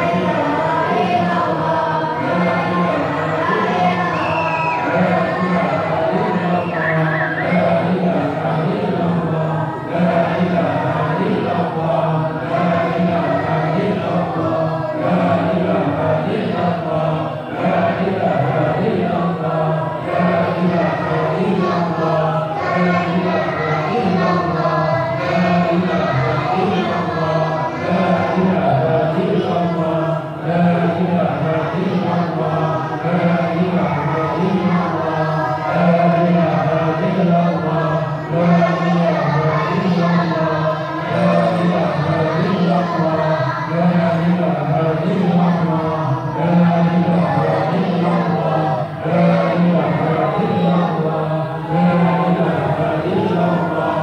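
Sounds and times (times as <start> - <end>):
man leading through a microphone: 0.0 - 54.0
men chanting prayers in unison: 0.0 - 54.0.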